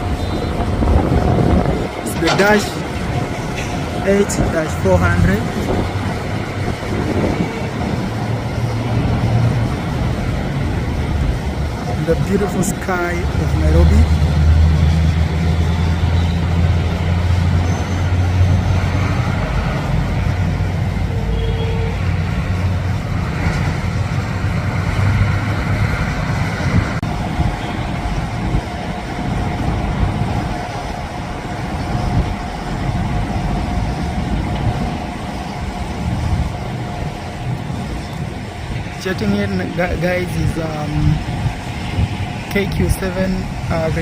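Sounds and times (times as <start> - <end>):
airliner engines rumbling: 0.0 - 44.0.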